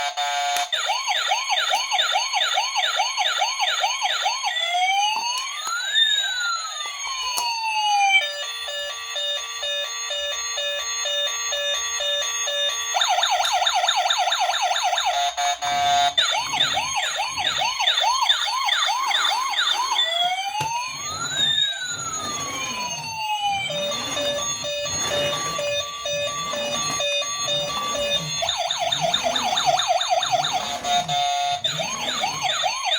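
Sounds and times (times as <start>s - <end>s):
electronic toy siren: 0.0s - 32.9s.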